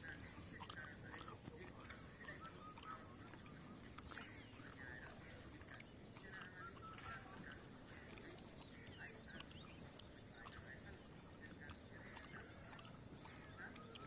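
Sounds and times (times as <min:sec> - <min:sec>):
low background noise: 0:00.0 - 0:14.0
poultry calls: 0:00.0 - 0:14.0.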